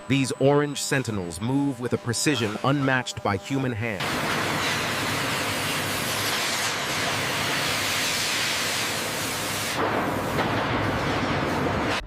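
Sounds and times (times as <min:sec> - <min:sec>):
industrial cutting machinery hissing: 0:00.0 - 0:11.8.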